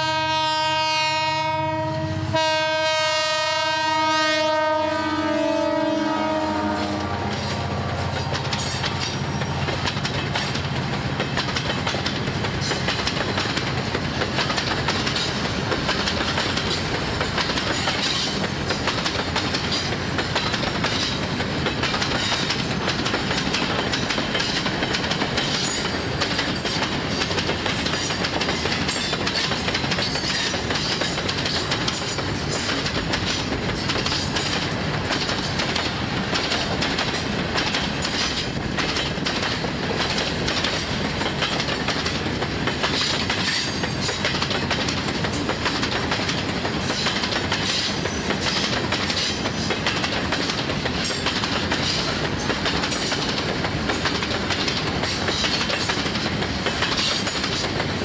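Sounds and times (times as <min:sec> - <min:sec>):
freight train wheels rumbling: 0:00.0 - 0:58.0
wheels clickety-clack on track: 0:05.6 - 0:58.0.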